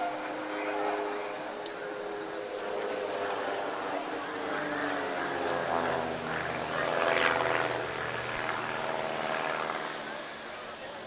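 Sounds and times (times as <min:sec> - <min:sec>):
propeller plane engines: 0:00.0 - 0:11.0.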